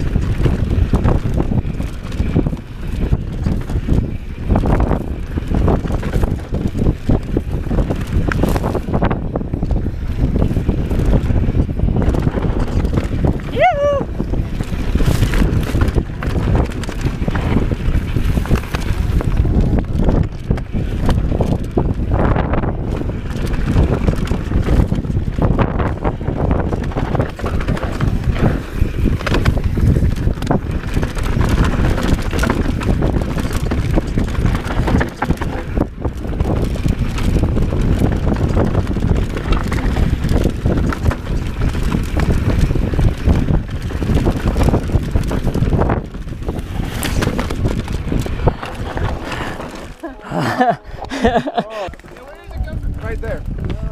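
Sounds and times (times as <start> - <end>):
bike rattles and knocks: 0.0 - 53.9
bike tyres rolling on dirt: 0.0 - 53.9
wind rushing over microphone: 0.0 - 53.9.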